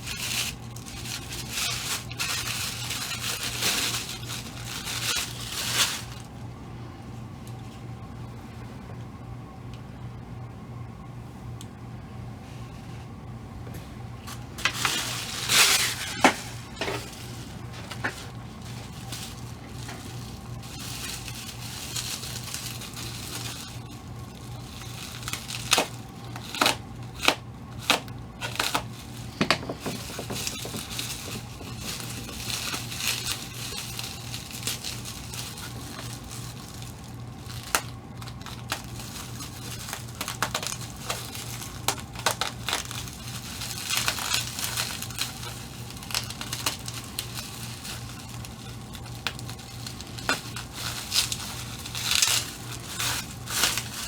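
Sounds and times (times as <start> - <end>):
packaging crinkling and rustling: 0.0 - 6.4, 14.2 - 54.0.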